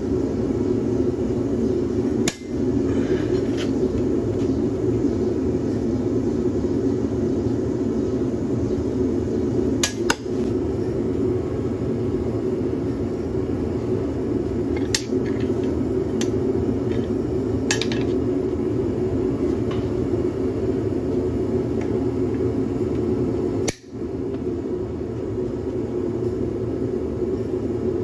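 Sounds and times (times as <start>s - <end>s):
gas forge burner rushing: 0.0s - 28.0s.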